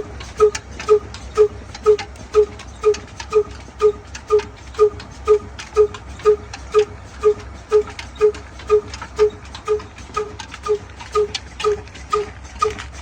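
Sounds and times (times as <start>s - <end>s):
diesel engine running slowly: 0.0s - 13.0s.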